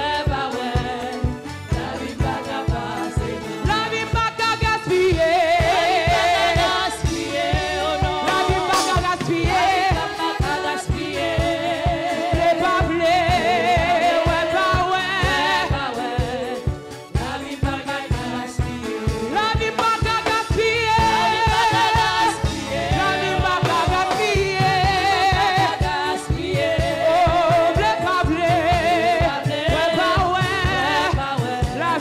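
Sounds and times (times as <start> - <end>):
band with steady drum beat: 0.0 - 32.0
person singing with vibrato: 0.0 - 32.0.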